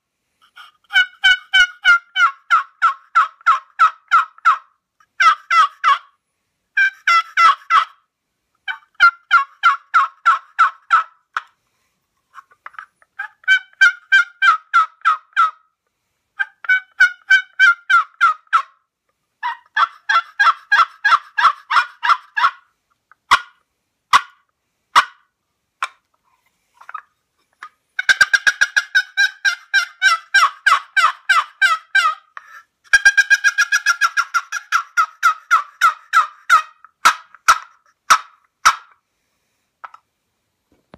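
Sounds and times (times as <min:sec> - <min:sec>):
box call turkey yelps: 0:00.4 - 0:06.2, 0:06.8 - 0:08.0, 0:08.6 - 0:11.5, 0:12.3 - 0:15.6, 0:16.4 - 0:18.8, 0:19.4 - 0:26.0, 0:26.8 - 0:39.0
sharp turkey clucks: 0:00.4 - 0:06.2, 0:06.8 - 0:08.0, 0:08.6 - 0:11.6, 0:12.3 - 0:15.6, 0:16.4 - 0:18.8, 0:19.4 - 0:26.1, 0:26.8 - 0:39.0, 0:39.8 - 0:40.0.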